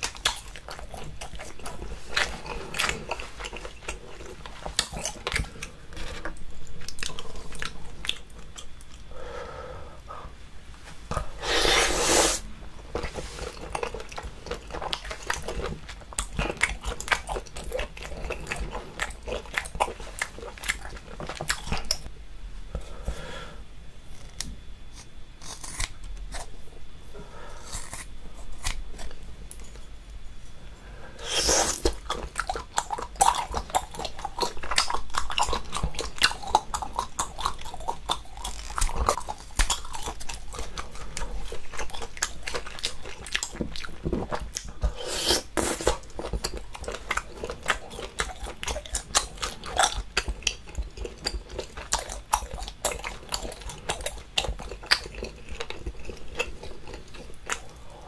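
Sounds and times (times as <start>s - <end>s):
chewing and biting: 0.0s - 9.1s, 12.9s - 22.1s, 24.1s - 26.6s, 31.2s - 58.0s.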